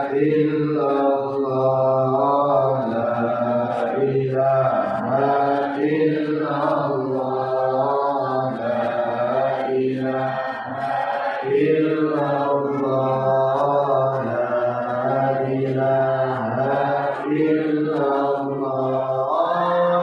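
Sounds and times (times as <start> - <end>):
person chanting: 0.0 - 20.0.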